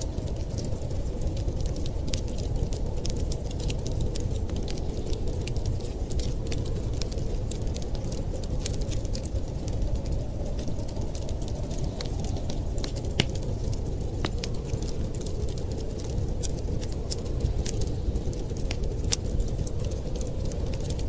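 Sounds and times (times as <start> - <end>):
low rumble of wind: 0.0 - 21.0
wood fire crackling: 0.0 - 21.0.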